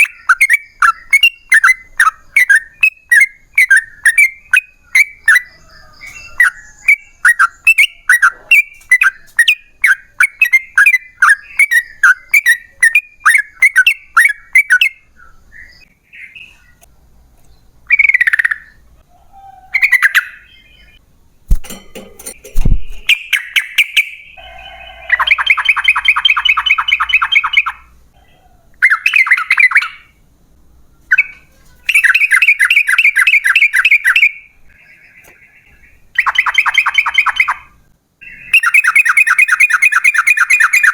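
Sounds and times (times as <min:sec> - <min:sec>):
bulbul singing: 0:00.0 - 0:16.9, 0:17.5 - 0:18.9, 0:19.6 - 0:28.0, 0:28.7 - 0:30.2, 0:31.0 - 0:40.9.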